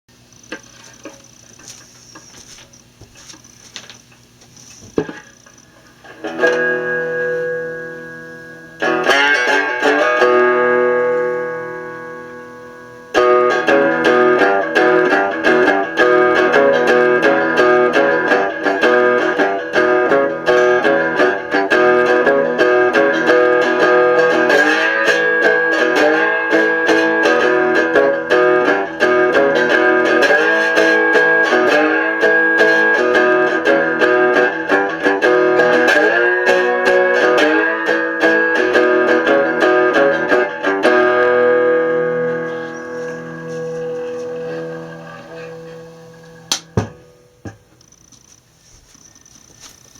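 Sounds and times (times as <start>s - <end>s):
cigar box guitar picked and strummed: 0.1s - 49.9s.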